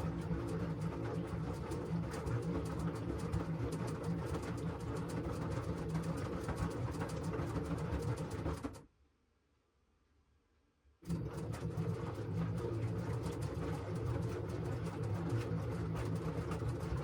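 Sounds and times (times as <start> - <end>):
washing machine running: 0.0 - 8.6, 11.0 - 17.0.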